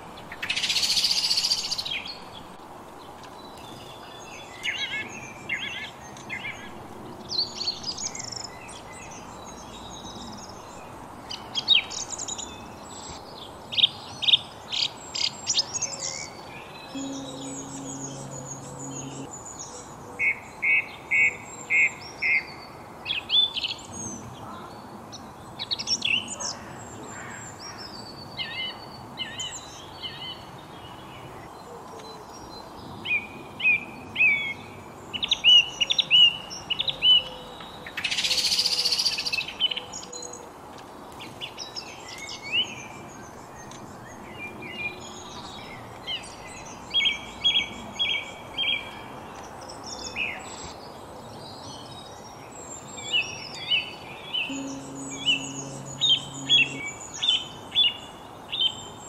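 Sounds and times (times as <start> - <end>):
songbirds singing and calling: 0.0 - 59.0.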